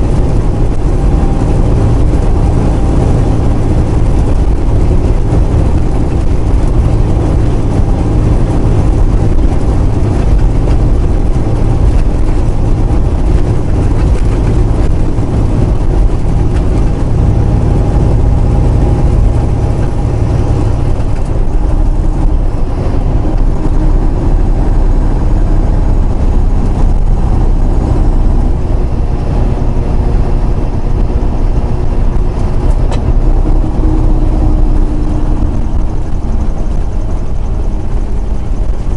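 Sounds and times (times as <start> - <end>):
diesel truck engine drone: 0.0 - 38.9
road noise: 0.0 - 38.9.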